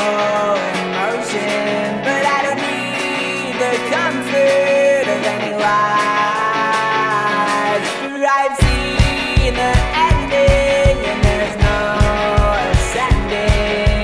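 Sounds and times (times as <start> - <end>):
song with guitar and beat: 0.0 - 14.0.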